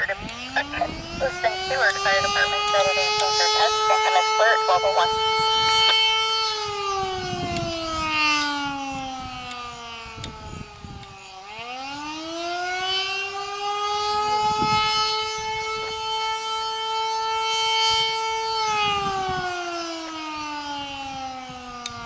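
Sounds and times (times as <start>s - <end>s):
mechanical siren wailing: 0.0s - 22.0s.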